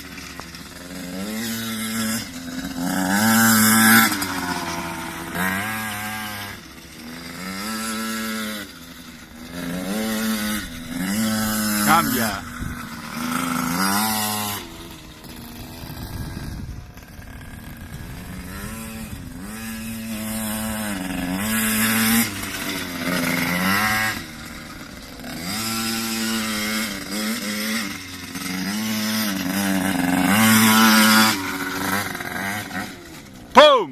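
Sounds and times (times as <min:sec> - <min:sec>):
pit bike engine revving: 0:00.0 - 0:33.9.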